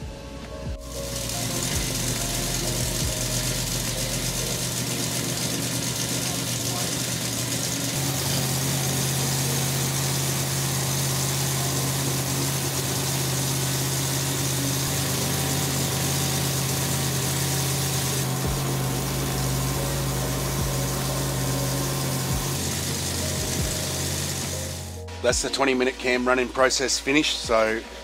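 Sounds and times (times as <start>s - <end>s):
engine running at fast idle: 0.8s - 24.9s.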